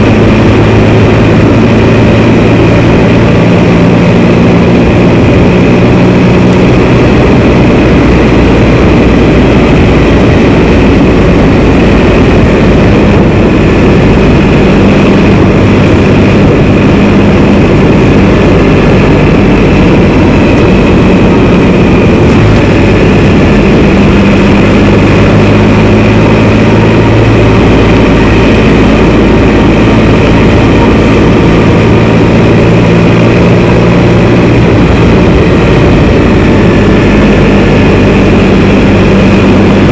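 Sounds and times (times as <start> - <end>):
motorcycle engine droning: 0.0 - 39.9
wind and road rush: 0.0 - 39.9.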